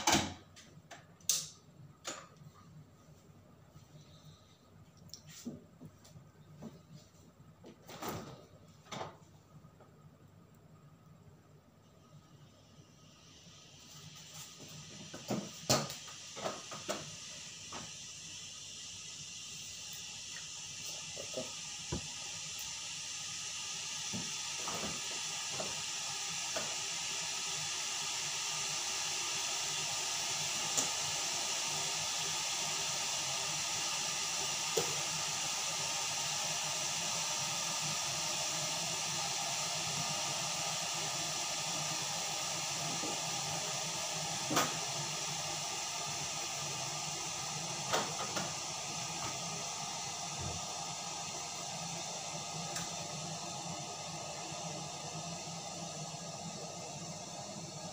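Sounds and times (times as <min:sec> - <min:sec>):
electric kettle hissing: 0:00.0 - 0:04.6, 0:10.5 - 0:57.9.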